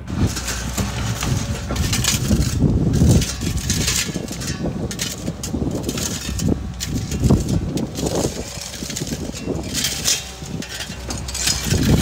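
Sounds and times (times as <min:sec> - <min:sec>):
bucket scraping through soil and stones: 0:00.0 - 0:12.0
excavator engine and hydraulics: 0:00.0 - 0:12.0.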